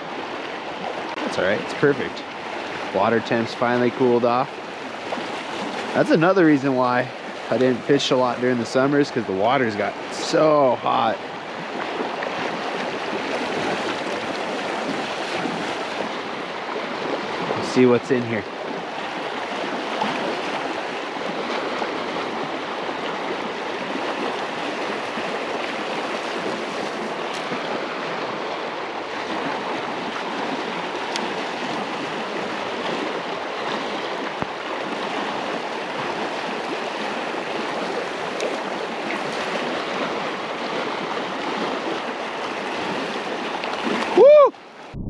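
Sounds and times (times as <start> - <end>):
river current rushing: 0.0 - 45.0.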